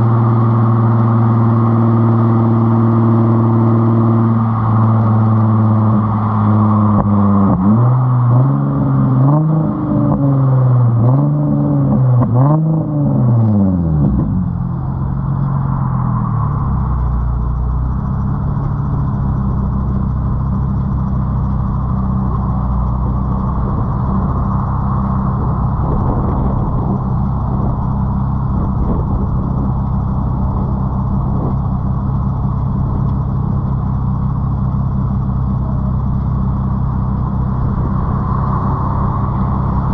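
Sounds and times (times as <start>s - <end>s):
car exhaust revving and idling: 0.0s - 39.9s.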